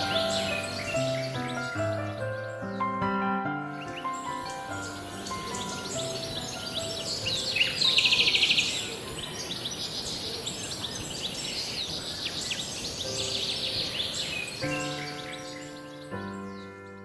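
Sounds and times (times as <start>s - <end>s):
bird rapid trill: 0.0s - 3.0s, 3.7s - 17.0s
forest background hiss: 0.0s - 17.0s
songbirds chirping: 0.0s - 17.0s.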